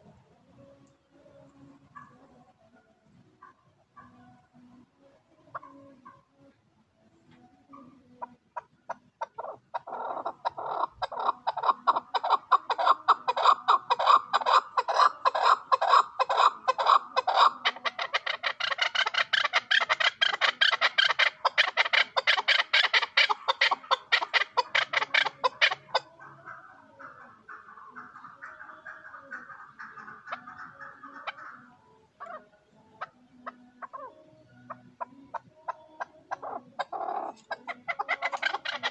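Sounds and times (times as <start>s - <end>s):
partridge calling: 7.7s - 38.9s.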